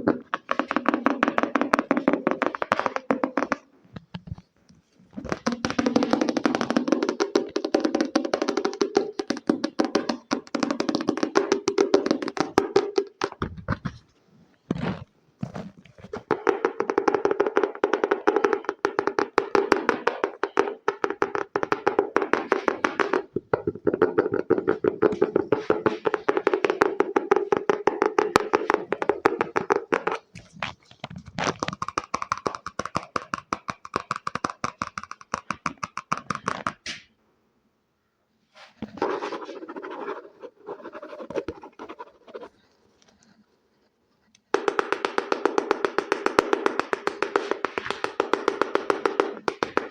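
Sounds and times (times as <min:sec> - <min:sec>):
fast tapping on hard object: 0:00.0 - 0:04.4, 0:05.2 - 0:14.0, 0:16.0 - 0:36.9, 0:38.8 - 0:42.6, 0:44.5 - 0:49.9.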